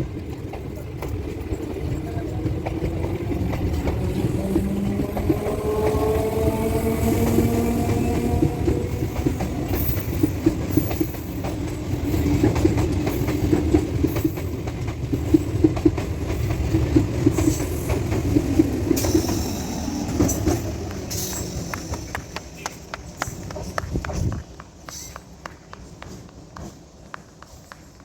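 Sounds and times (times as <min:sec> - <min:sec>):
train rumbling past: 0:00.0 - 0:28.0
wheels clacking over rail joints: 0:00.0 - 0:28.0.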